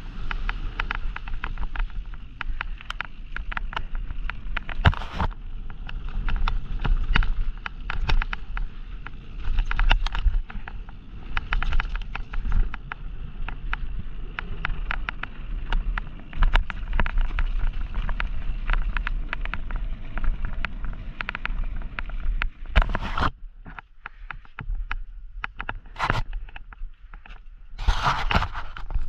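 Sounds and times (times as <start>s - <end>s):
bike rattling and knocking: 0.0s - 29.0s
bike tyre rumble: 0.0s - 29.0s.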